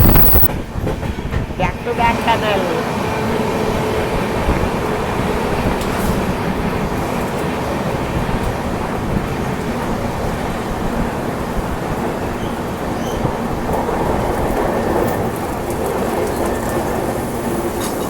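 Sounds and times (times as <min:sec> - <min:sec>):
train rumble and rail noise: 0:00.0 - 0:18.0.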